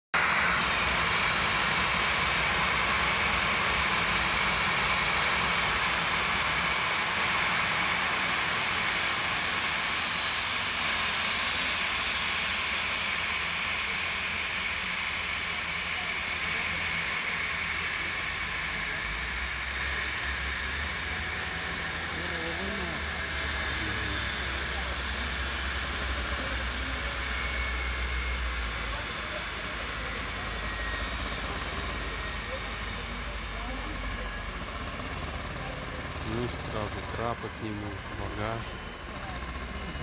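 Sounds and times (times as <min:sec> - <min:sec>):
jet engines idling: 0:00.2 - 0:40.0.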